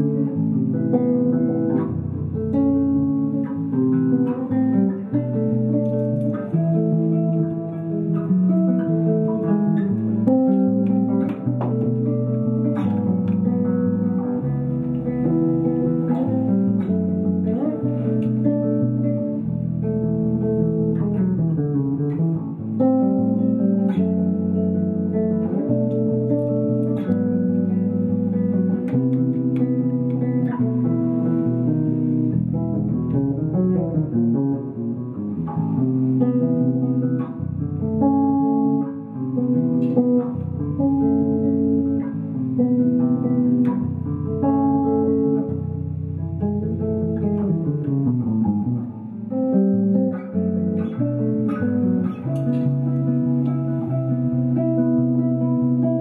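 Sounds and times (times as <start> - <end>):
low bass line: 0.0 - 56.0
plucked guitar notes: 0.0 - 56.0.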